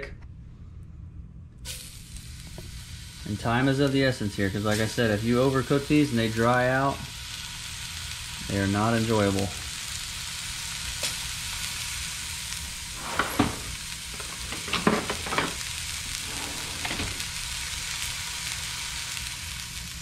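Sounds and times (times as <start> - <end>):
fish sizzling in hot oil: 1.7 - 16.3, 17.2 - 20.0.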